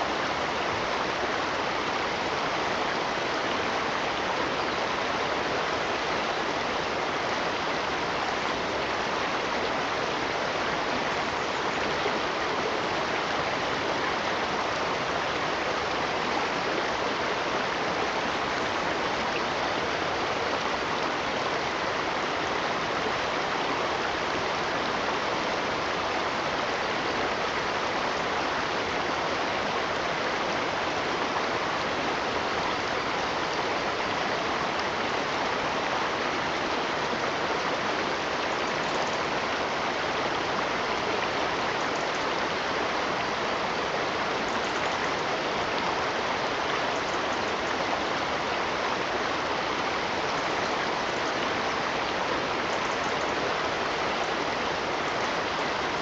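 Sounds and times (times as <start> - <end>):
stream of running water: 0.0 - 56.0.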